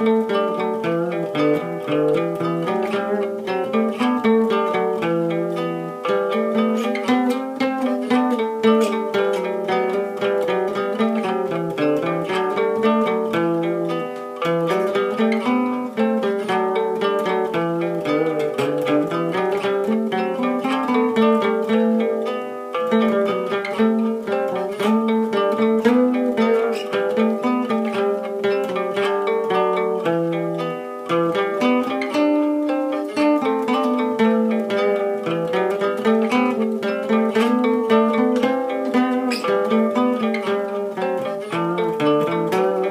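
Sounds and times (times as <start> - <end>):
acoustic guitar picked notes: 0.0 - 42.9.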